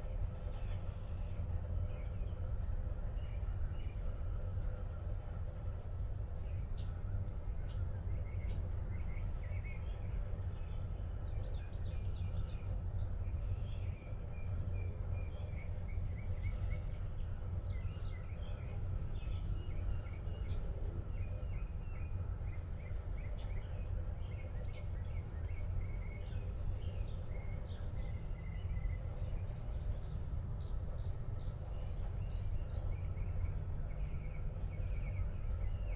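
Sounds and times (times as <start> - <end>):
small birds chirping: 6.4 - 35.9.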